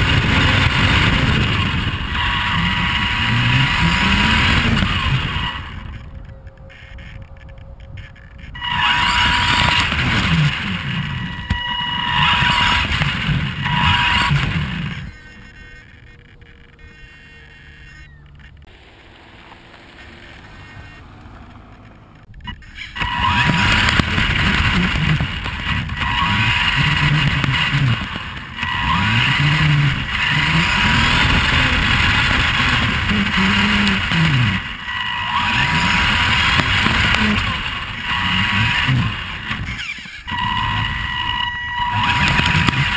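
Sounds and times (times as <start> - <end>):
tyres crunching gravel: 0.0 - 7.2, 8.4 - 42.9
electric motor whine: 0.0 - 42.9.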